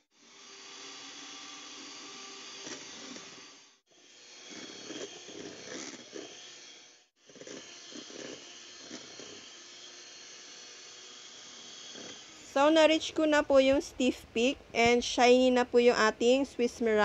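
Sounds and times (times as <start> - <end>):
electric mixer whining: 0.2 - 14.5.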